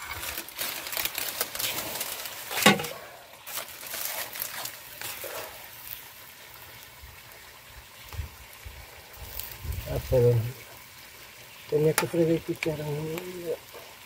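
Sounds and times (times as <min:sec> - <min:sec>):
leaves and plastic rustling: 0:00.0 - 0:14.0.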